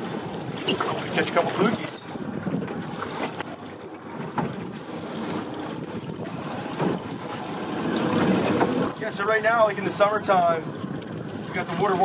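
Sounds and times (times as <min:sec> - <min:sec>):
water washing against hull: 0:00.0 - 0:12.0
wind buffeting microphone: 0:00.0 - 0:12.0.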